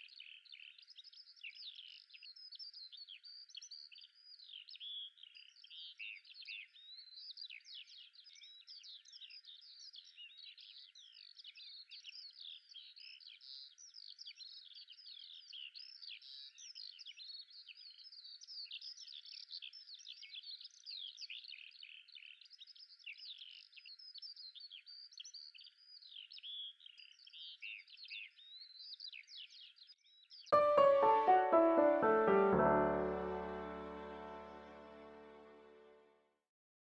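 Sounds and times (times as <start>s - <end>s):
small birds chirping: 0.0s - 30.6s.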